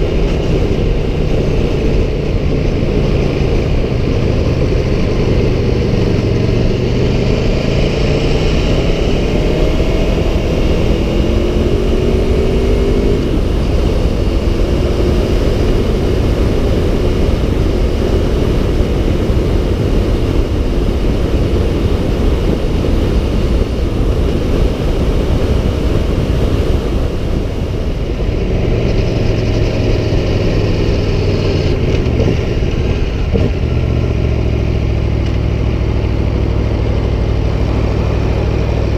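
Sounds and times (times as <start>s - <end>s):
motorcycle engine accelerating: 0.0s - 38.9s
wind noise: 0.0s - 38.9s.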